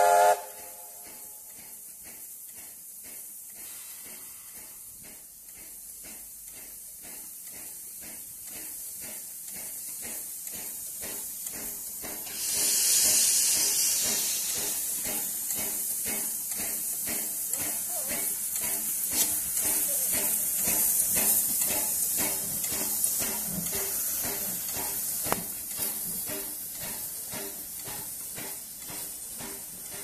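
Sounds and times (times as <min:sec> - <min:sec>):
loud steam hiss: 0:00.0 - 0:30.0
steam locomotive hissing: 0:00.0 - 0:30.0.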